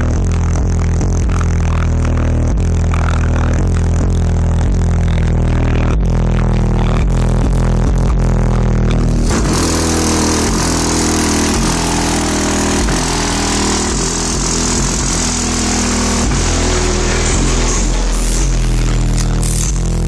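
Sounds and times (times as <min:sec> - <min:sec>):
harsh noisy layer: 0:00.0 - 0:20.0
rap music through subwoofers: 0:00.0 - 0:20.0.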